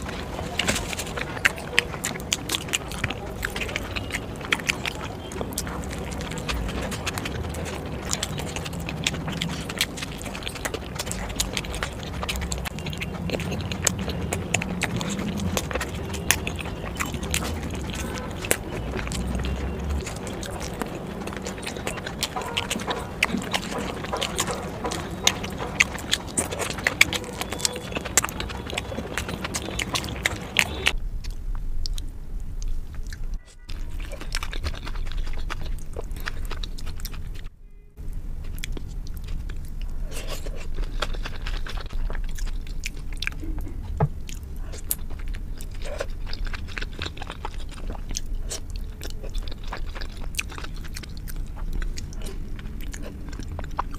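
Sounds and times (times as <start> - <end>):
close-miked chewing with wet clicks: 0.0 - 53.9.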